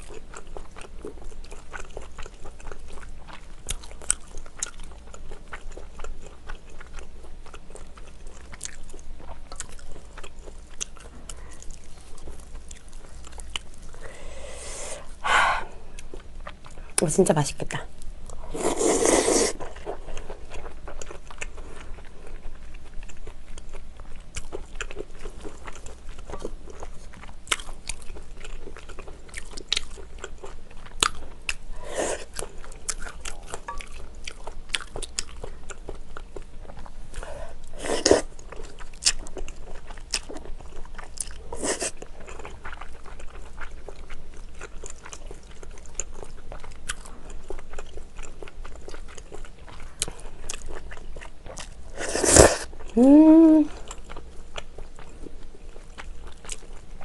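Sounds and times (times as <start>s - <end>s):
wet chewing: 0.0s - 15.0s, 18.2s - 57.0s.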